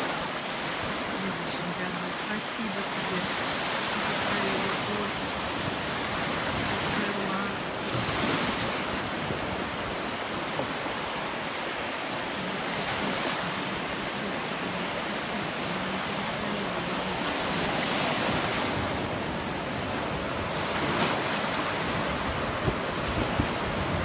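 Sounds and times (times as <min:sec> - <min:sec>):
waves breaking on shore: 0:00.0 - 0:24.0.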